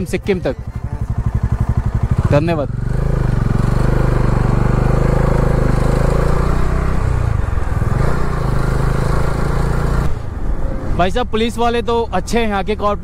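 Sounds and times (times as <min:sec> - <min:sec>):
motorcycle engine accelerating: 0:00.0 - 0:10.7.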